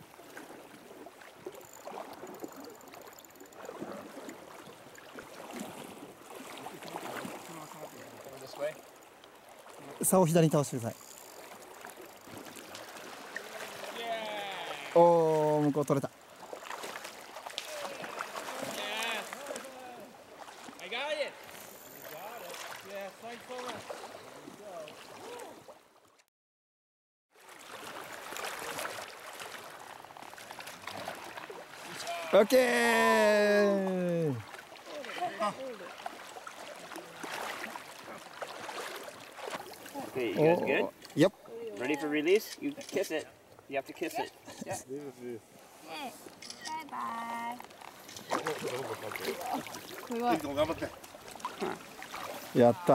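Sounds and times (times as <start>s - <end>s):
river running over gravel: 0.0s - 23.8s, 27.4s - 44.1s, 44.9s - 52.9s
water swirling and gurgling: 0.0s - 26.2s, 27.3s - 52.9s.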